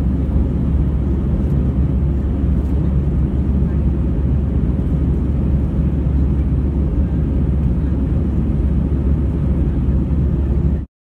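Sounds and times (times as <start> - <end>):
jet airliner cabin rumble: 0.0 - 10.9.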